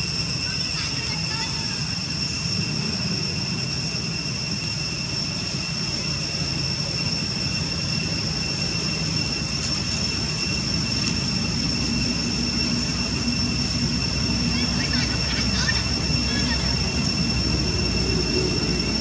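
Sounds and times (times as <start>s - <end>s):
high-pitched drone: 0.0s - 19.0s.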